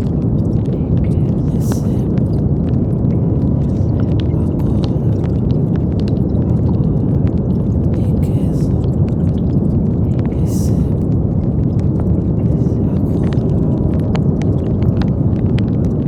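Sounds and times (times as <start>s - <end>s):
brown noise rumbling hiss: 0.0s - 16.0s.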